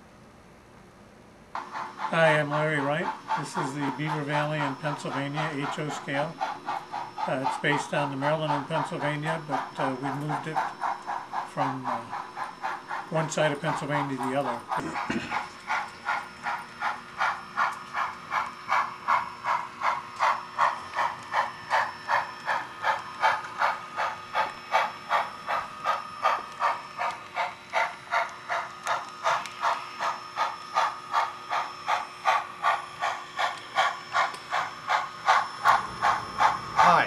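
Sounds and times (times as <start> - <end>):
model steam locomotive chuffing: 1.6 - 37.0.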